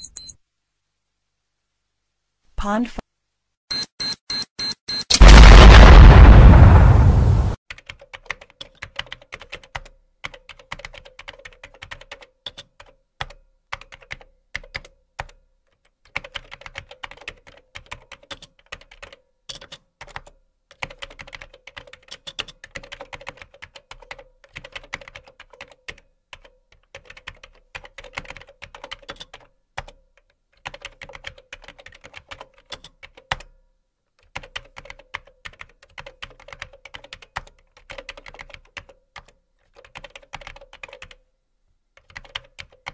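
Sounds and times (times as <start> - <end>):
typing on a keyboard: 7.7 - 41.2, 41.9 - 42.9.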